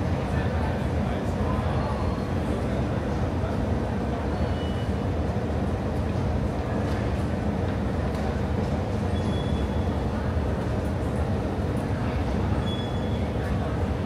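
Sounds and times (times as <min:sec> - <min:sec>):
faint voices: 0:00.0 - 0:14.0.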